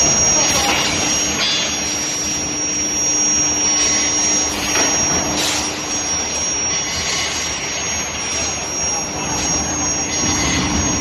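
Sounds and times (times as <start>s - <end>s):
constant hum: 0.0s - 11.0s
high whine: 0.0s - 11.0s
machinery roar: 0.0s - 11.0s.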